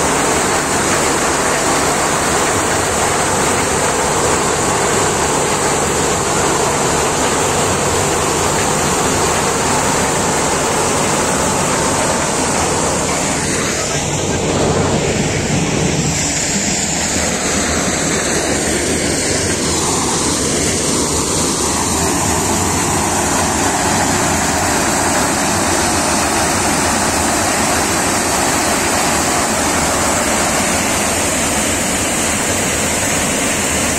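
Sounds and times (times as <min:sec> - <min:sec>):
maize thresher running: 0:00.0 - 0:33.9
tractor engine hum: 0:00.0 - 0:33.9.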